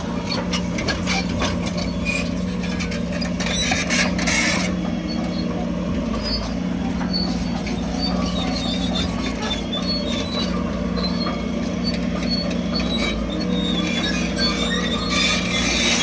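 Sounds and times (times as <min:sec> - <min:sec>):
bulldozer diesel engine: 0:00.0 - 0:16.0
squeaking crawler tracks: 0:00.0 - 0:16.0.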